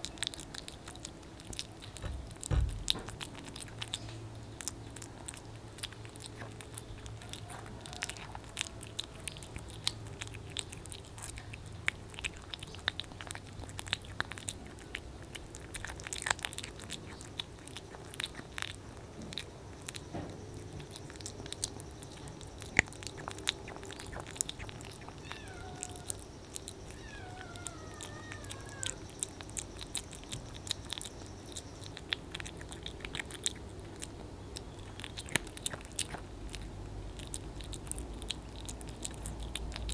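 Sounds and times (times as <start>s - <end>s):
kitten chewing wet food: 0.0s - 39.9s.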